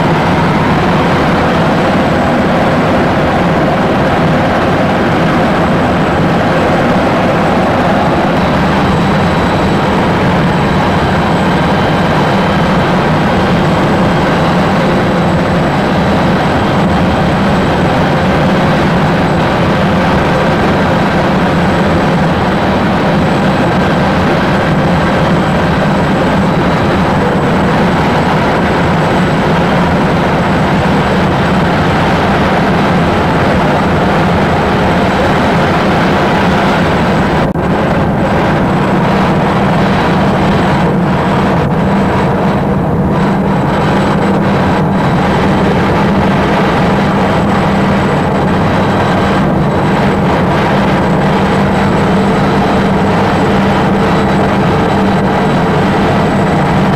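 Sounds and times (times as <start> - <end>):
faint high whine: 0.0 - 56.9
helicopter engine and rotor drone: 0.0 - 56.9.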